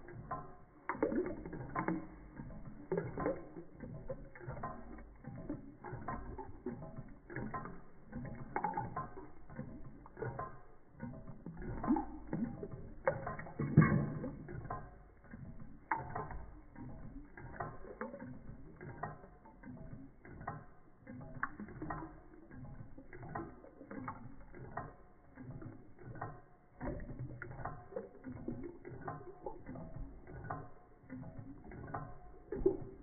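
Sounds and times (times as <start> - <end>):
engine linkage clicking and knocking: 0.0 - 33.0.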